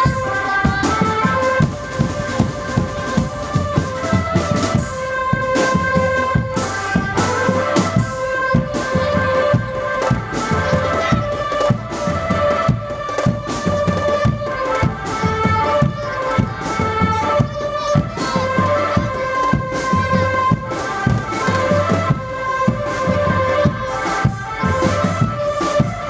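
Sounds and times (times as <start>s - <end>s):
drums and cymbals beating: 0.0s - 26.0s.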